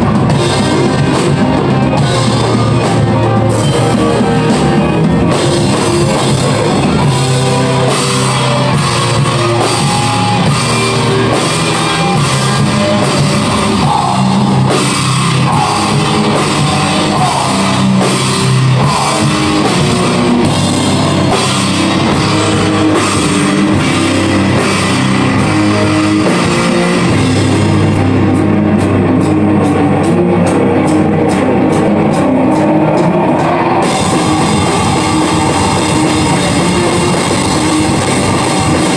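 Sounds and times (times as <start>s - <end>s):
distorted electric guitars: 0.0s - 38.9s
drum kit: 0.0s - 38.9s.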